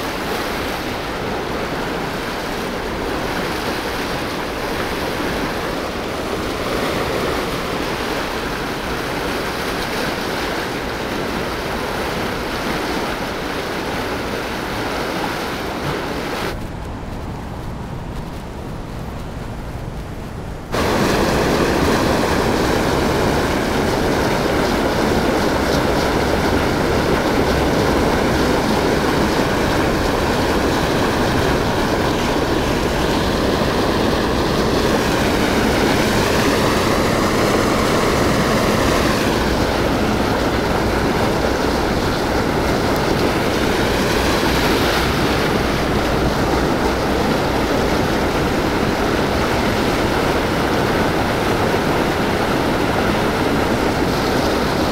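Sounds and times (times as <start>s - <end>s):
river water rushing below weir: 0.0s - 54.9s.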